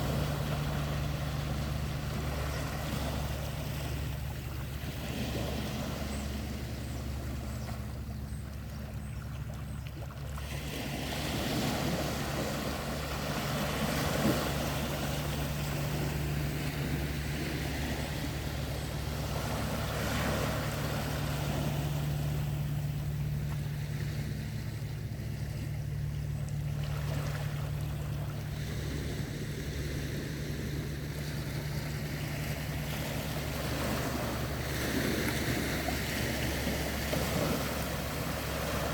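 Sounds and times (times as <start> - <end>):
sea waves washing: 0.0 - 38.9
steady low hum: 0.0 - 38.9.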